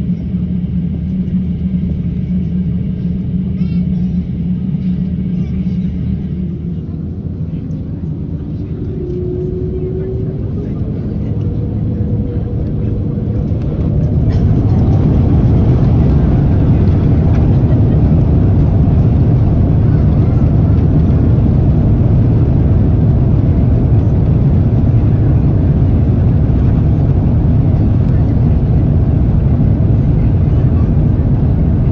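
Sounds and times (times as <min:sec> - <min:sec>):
wheels rumbling on runway: 0:00.0 - 0:31.9
jet engines spooling up: 0:00.1 - 0:31.9.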